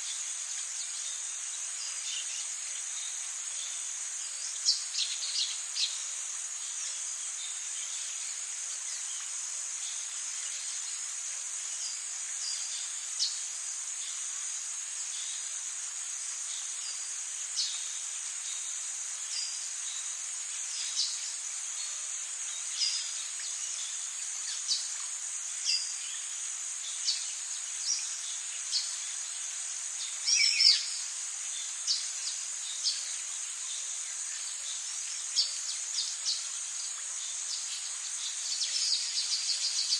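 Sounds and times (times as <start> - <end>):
insect chorus droning: 0.0 - 39.9.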